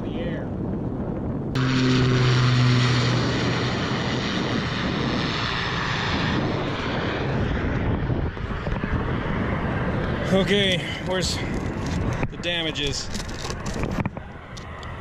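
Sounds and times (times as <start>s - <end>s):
low airplane engine hum: 0.0s - 15.0s
rushing propeller noise: 1.4s - 15.0s.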